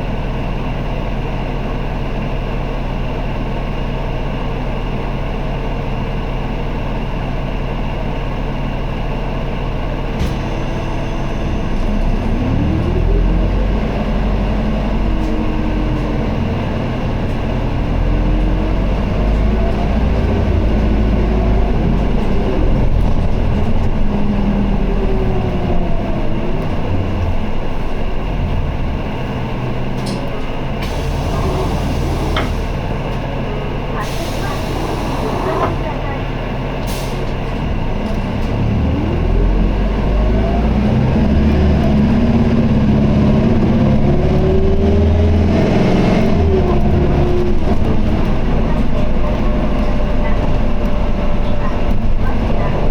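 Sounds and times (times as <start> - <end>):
bus diesel engine: 0.0 - 52.9.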